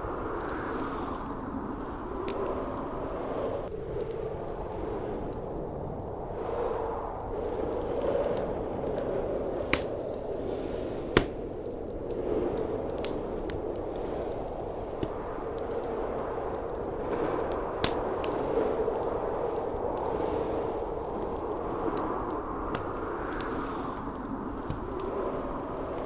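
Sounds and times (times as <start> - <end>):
roar of blizzard wind: 0.0 - 26.0
wood fire crackling and popping: 0.0 - 26.0.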